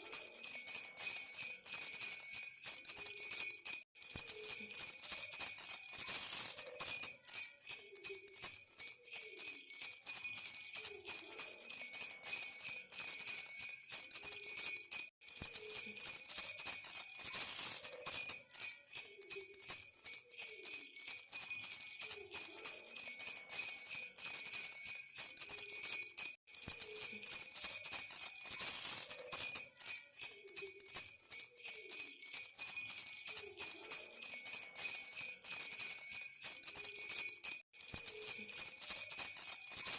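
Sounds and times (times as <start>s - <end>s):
baby rattle bells jingling: 0.0s - 39.9s.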